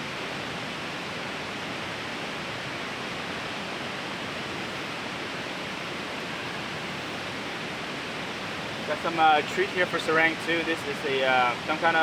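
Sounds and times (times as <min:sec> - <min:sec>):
fast-flowing river rushing: 0:00.0 - 0:12.0.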